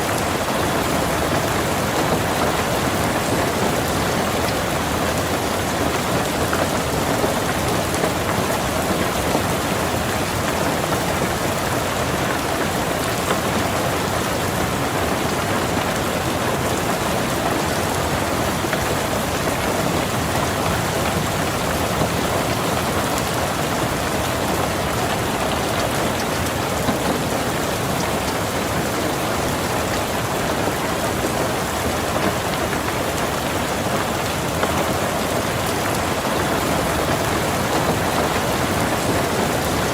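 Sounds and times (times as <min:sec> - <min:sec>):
rain falling on a car: 0:00.0 - 0:39.9.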